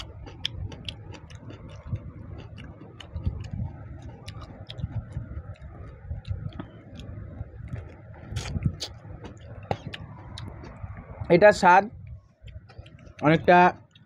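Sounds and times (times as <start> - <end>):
chewing mouth clicks and smacks: 0.0 - 10.8, 12.0 - 14.0
soft low thumps: 0.0 - 11.3.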